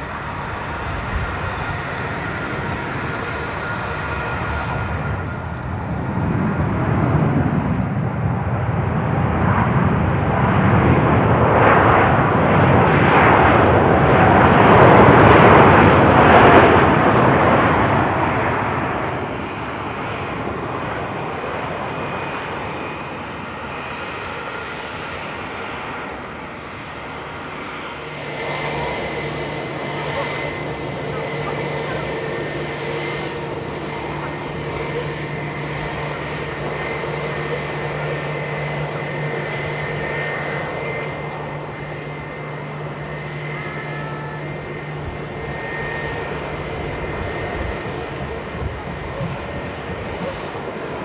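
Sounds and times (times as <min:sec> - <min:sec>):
jet airliner passing by: 0:00.0 - 0:51.0.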